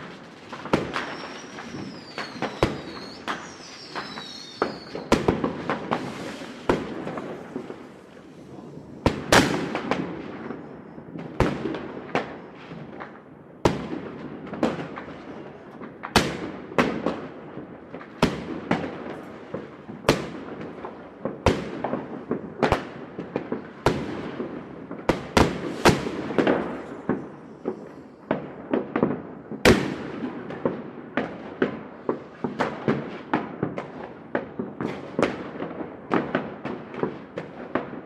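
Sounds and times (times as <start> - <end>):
fireworks bangs with echo: 0.0 - 38.0.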